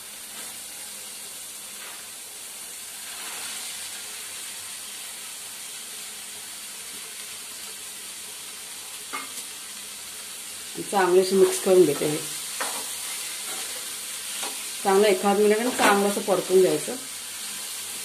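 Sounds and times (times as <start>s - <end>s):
masala sizzling in hot oil: 0.0s - 18.0s.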